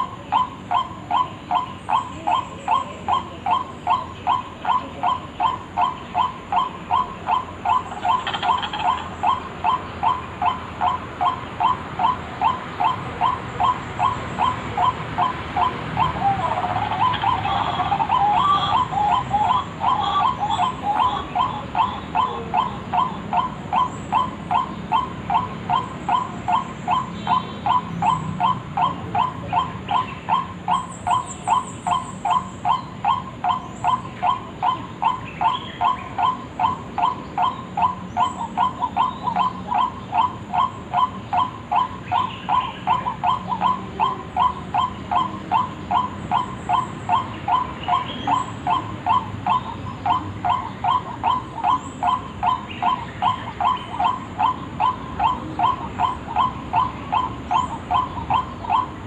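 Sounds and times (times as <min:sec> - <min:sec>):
faint high bird chirps: 0:00.0 - 0:59.0
waterhen harsh repeated call: 0:00.0 - 0:59.0.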